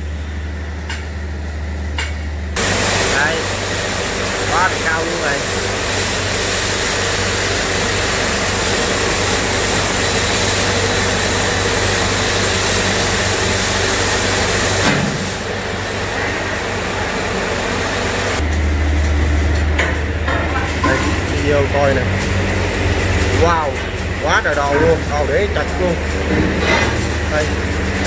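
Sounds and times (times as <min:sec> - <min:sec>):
fan hiss: 0:00.0 - 0:28.0
low fan hum: 0:00.0 - 0:28.0.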